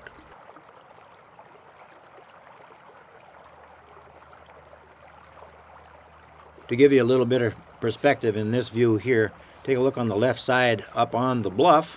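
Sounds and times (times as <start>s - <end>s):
faint steady hiss: 0.0s - 11.9s.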